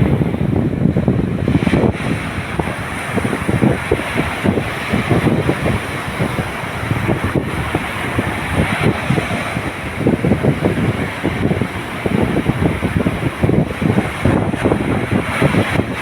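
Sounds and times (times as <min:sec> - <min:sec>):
sea waves washing ashore: 0:00.0 - 0:16.0
wind buffeting microphone: 0:00.0 - 0:16.0.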